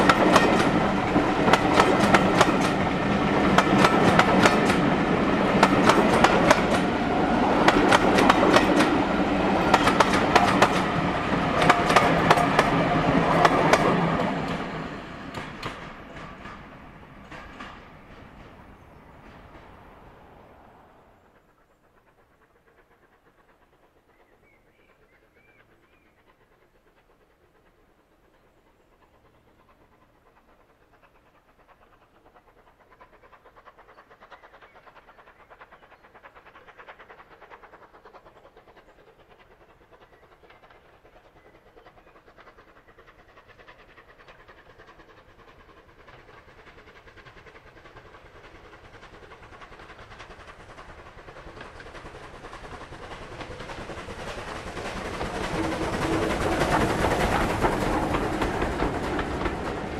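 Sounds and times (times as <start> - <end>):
wheels clattering on rails: 0.0 - 21.0, 29.3 - 59.9
steam locomotive working: 0.0 - 59.9.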